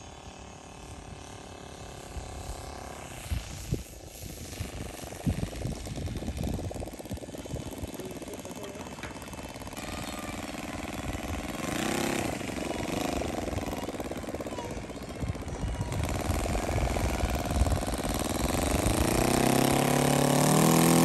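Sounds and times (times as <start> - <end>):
model airplane engine at low throttle: 0.0 - 21.0.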